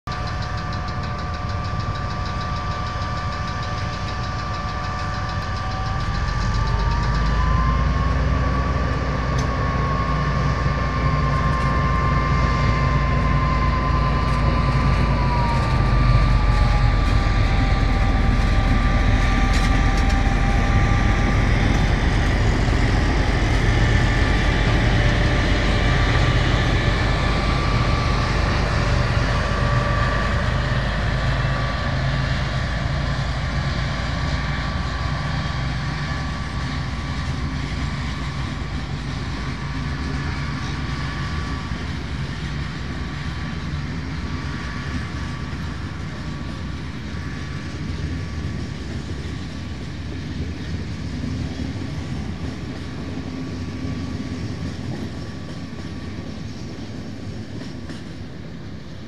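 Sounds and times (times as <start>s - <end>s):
diesel locomotive engine: 0.0s - 59.0s
rising engine whine: 0.0s - 59.0s.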